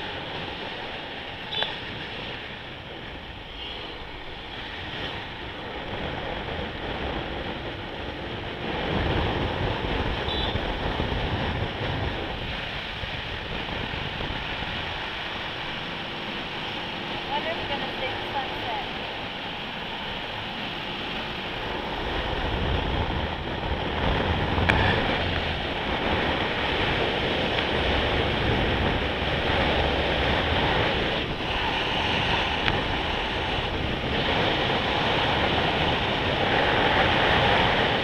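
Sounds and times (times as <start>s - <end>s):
road noise: 0.0s - 38.0s
wind rushing over microphone: 0.0s - 38.0s.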